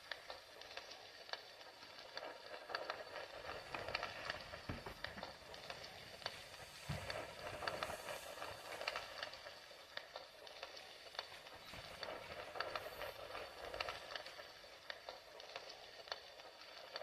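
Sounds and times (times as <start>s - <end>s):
fire crackling and popping: 0.0s - 17.0s
steady hiss: 0.0s - 17.0s.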